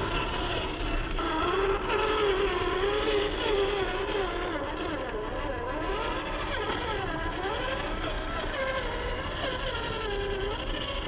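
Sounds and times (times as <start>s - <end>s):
toy car electric motor whining: 0.0s - 11.0s.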